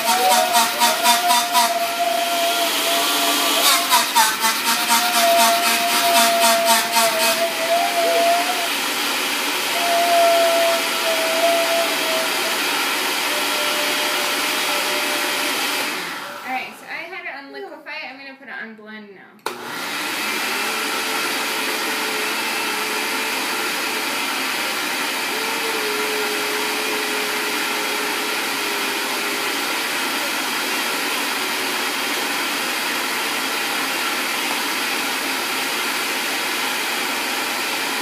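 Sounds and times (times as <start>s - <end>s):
blender running: 0.0s - 16.8s, 19.4s - 38.0s.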